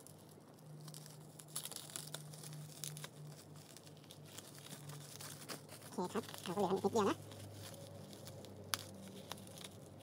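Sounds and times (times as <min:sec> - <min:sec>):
bubble wrap crinkling: 0:00.0 - 0:10.0
packing tape tearing: 0:00.0 - 0:10.0.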